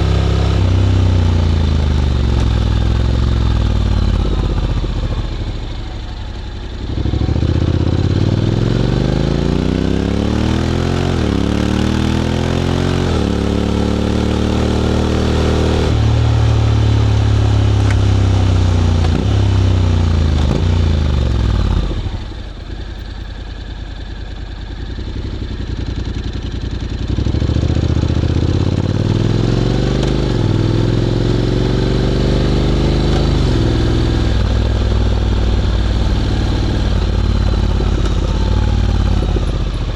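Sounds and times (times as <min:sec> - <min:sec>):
motorcycle engine accelerating and idling: 0:00.0 - 0:39.9.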